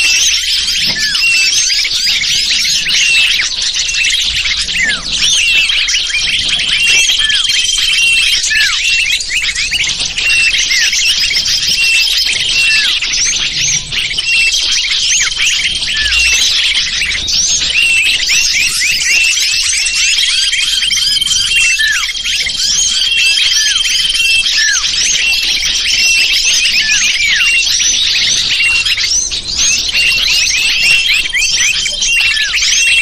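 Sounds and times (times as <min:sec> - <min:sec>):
small songbirds chirping and twittering: 0:00.0 - 0:33.0.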